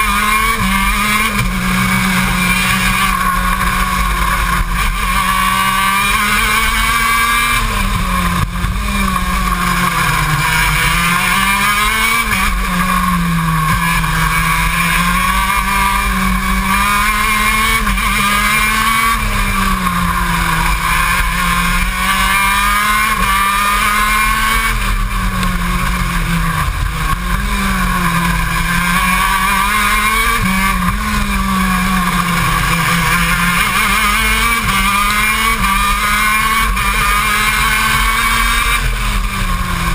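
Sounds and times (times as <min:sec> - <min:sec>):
kart two-stroke engine revving: 0:00.0 - 0:39.9.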